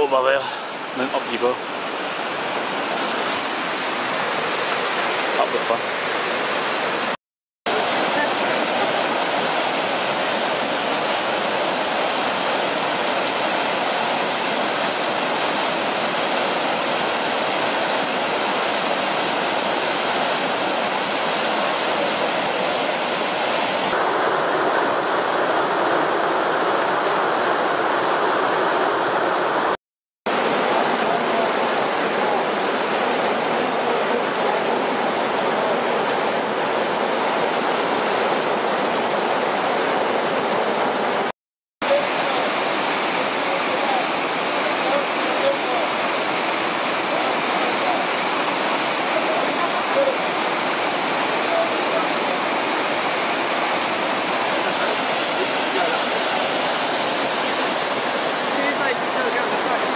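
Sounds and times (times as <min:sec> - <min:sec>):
stream rushing over boulders: 0:00.0 - 0:59.9.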